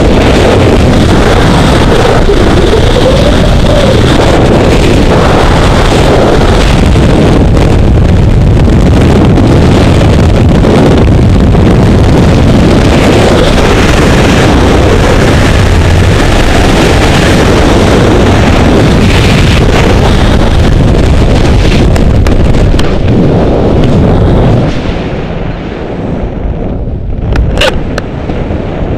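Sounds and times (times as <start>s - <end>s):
wind buffeting a microphone: 0.0s - 28.9s.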